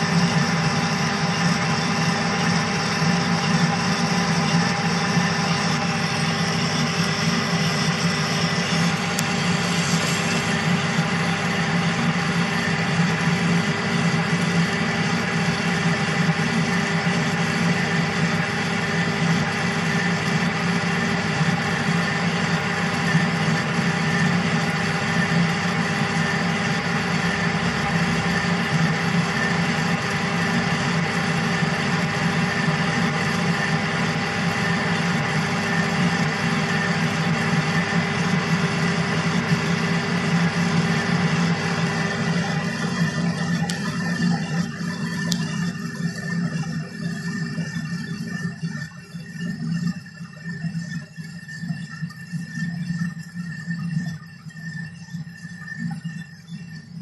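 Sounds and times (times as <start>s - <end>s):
metal lathe humming: 0.0s - 48.3s.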